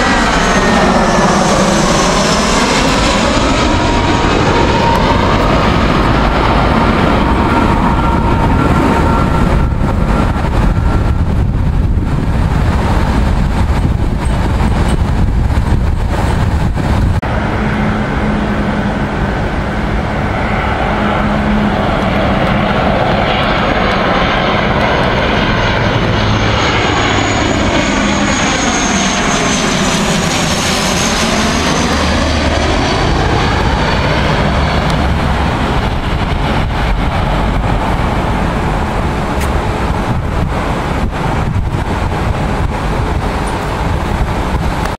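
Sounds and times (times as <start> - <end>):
jet engines passing overhead: 0.0 - 44.9
turboprop propeller drone and whine: 0.0 - 44.9.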